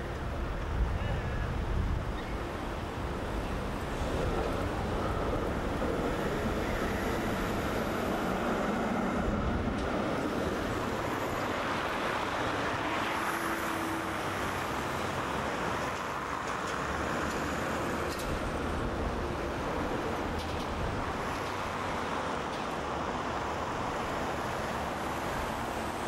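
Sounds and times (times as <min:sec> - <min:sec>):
city traffic noise: 0:00.0 - 0:26.0
tram wheels running on rails: 0:00.0 - 0:26.0.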